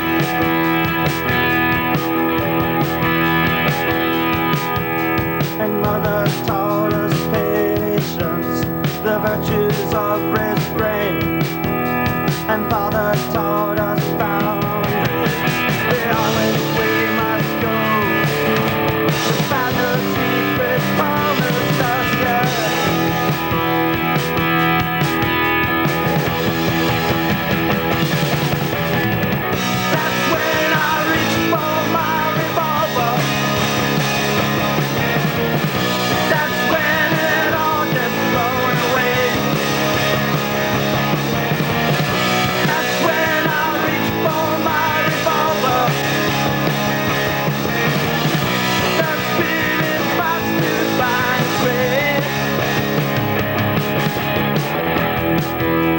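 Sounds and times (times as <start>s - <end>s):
rock music: 0.0s - 55.9s.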